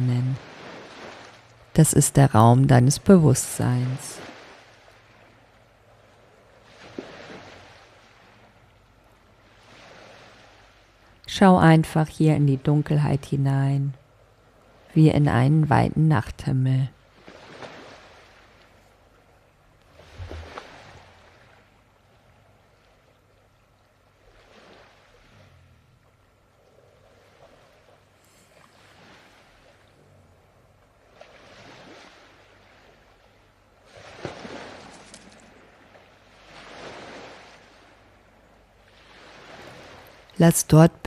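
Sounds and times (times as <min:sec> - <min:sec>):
sea waves washing in: 0:00.0 - 0:11.4, 0:16.9 - 0:41.0.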